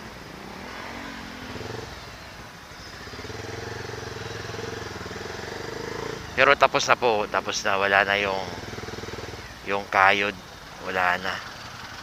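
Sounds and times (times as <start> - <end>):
motorcycle engine running: 0.9 - 9.8, 10.4 - 12.0.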